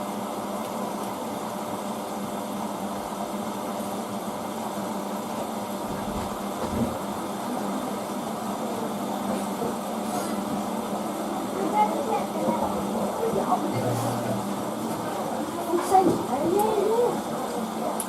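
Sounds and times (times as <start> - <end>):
washing machine hum and rush: 0.0 - 18.0.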